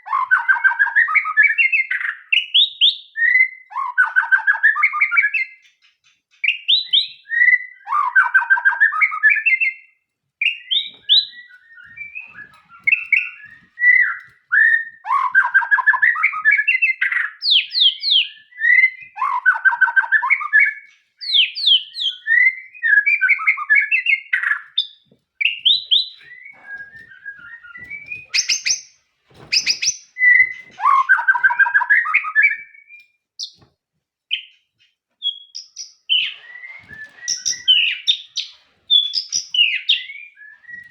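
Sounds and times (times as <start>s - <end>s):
songbird whistling and trilling: 0.0s - 33.6s, 35.2s - 40.9s.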